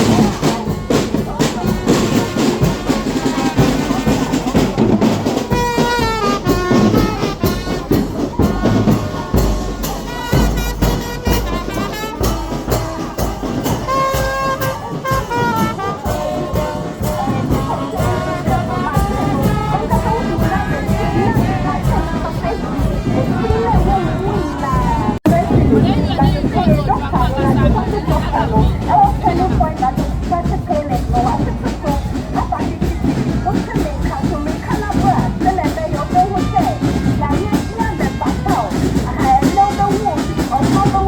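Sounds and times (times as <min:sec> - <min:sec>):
brass melody: 0:00.0 - 0:41.0
steady drumming: 0:00.0 - 0:41.0.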